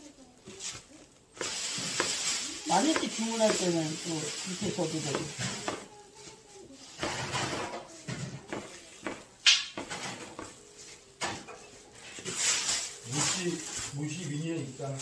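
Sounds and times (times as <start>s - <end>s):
rustling and handling noises: 0.0s - 15.0s.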